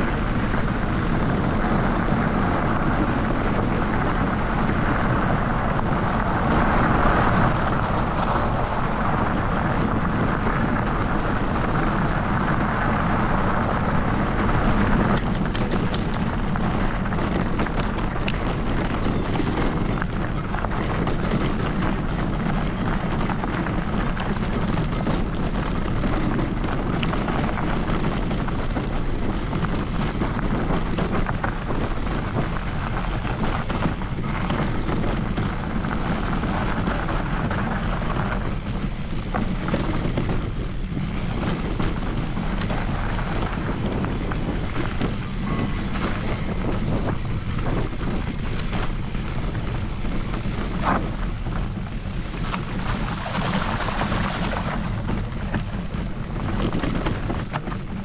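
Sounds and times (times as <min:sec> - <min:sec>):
bike rattles and ticks: 0:00.0 - 0:58.0
wind rushing over microphone: 0:00.0 - 0:58.0
tyres on gravel: 0:00.1 - 0:58.0.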